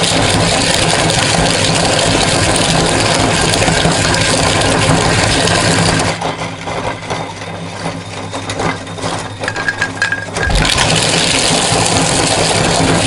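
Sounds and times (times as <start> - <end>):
meat grinder motor hum: 0.0 - 13.0.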